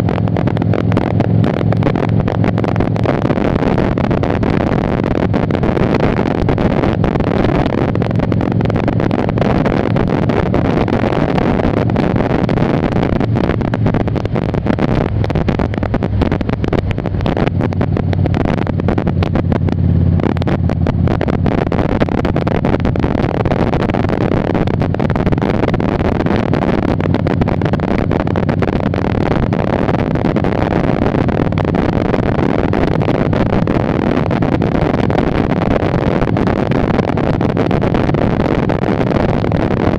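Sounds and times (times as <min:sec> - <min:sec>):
motorcycle engine rumble: 0:00.0 - 0:39.9
wind noise on microphone: 0:00.0 - 0:39.9.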